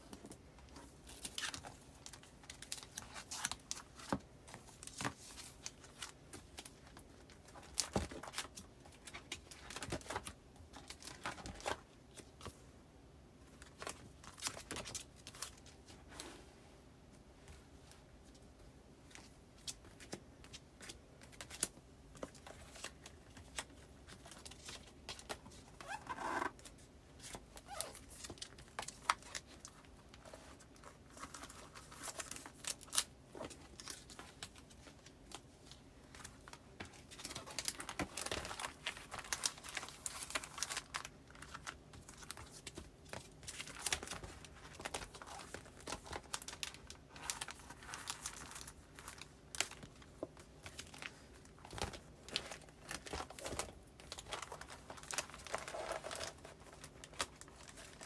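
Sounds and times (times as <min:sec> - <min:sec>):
paper rustling and crinkling: 0:00.0 - 0:12.6, 0:19.0 - 0:58.0.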